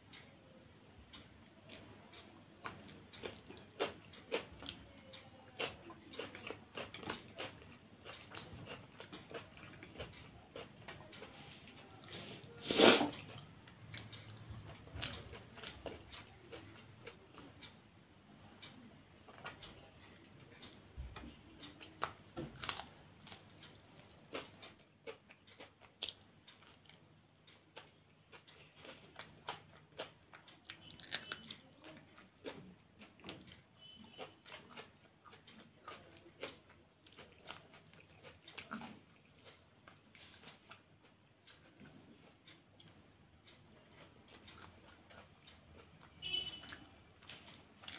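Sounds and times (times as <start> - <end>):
person chewing food: 1.4 - 47.9.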